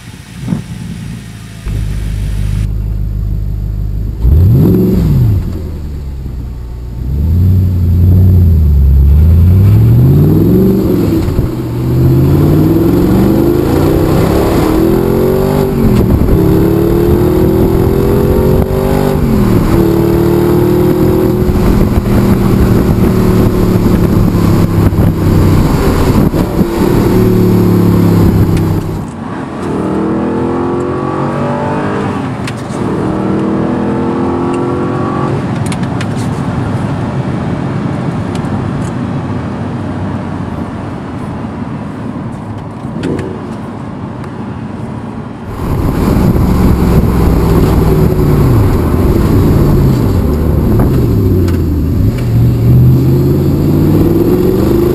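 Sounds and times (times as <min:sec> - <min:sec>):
car engine revving: 0:00.4 - 0:35.7, 0:45.5 - 0:54.9.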